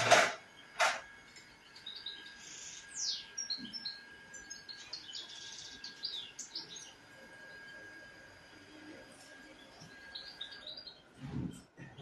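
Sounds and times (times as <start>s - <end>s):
faint high whine: 0.0s - 12.0s
songbird chirping and trilling: 0.5s - 11.2s.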